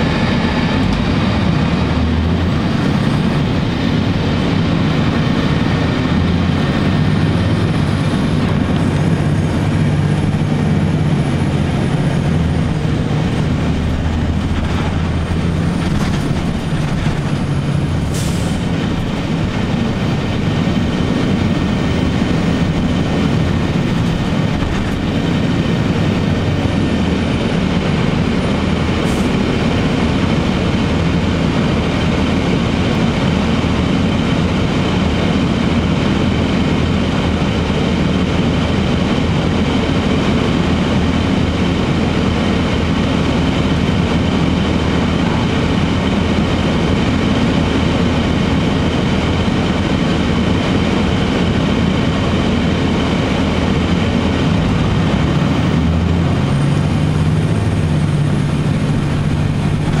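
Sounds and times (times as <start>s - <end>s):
diesel bus engine idling: 0.0s - 60.0s.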